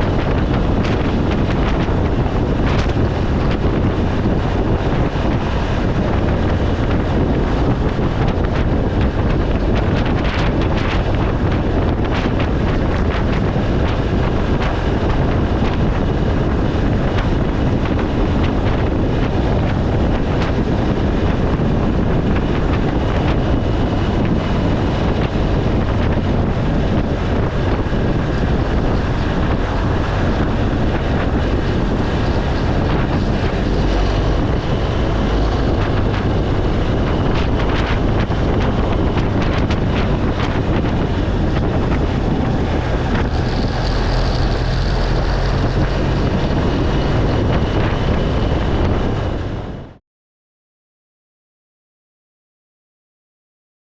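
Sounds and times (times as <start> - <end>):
motorcycle engine running: 0.0 - 49.2
wind buffeting microphone: 0.0 - 50.0.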